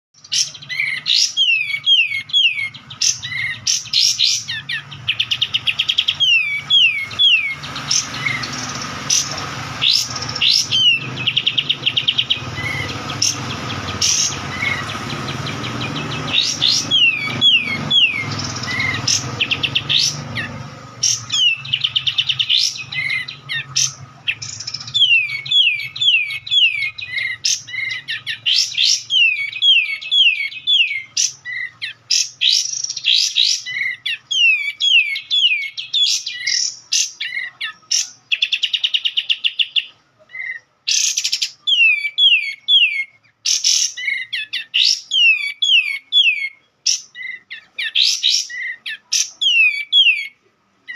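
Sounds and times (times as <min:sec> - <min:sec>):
bird singing: 0:00.2 - 0:50.9.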